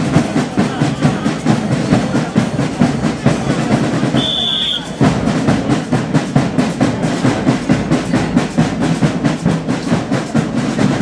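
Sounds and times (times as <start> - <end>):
snare and bass drum marching beat: 0.0 - 11.0.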